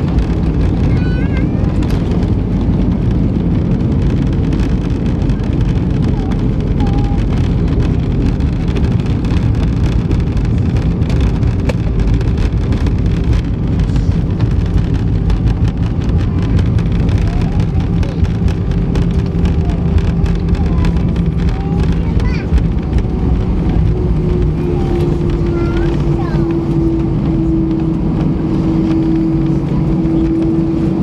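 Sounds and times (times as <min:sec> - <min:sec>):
airplane cabin rumble: 0:00.0 - 0:31.0
jet engine hum: 0:00.0 - 0:31.0.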